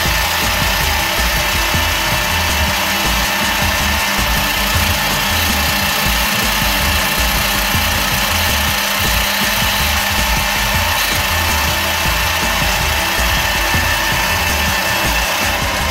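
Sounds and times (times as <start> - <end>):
metal lathe whining: 0.0 - 15.9.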